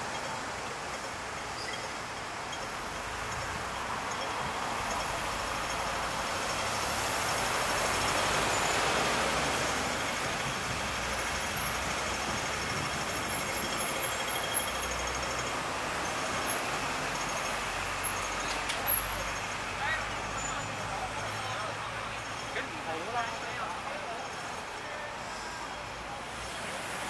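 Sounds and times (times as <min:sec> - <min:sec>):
passing street traffic: 0:00.0 - 0:27.0.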